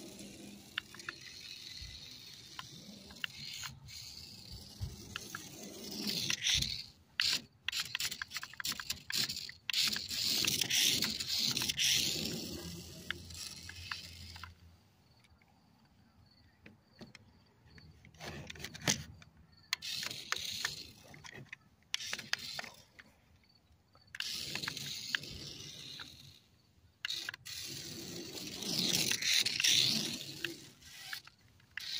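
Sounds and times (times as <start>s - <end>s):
toy car motor whirring: 0.0s - 31.9s.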